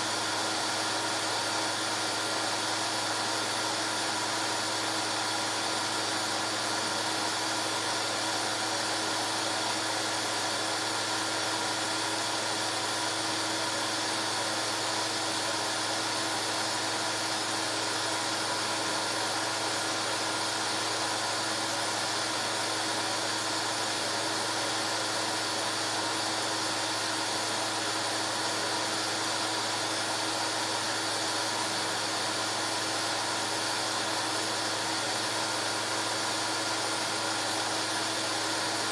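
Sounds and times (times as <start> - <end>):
film projector motor whirring: 0.0 - 38.9.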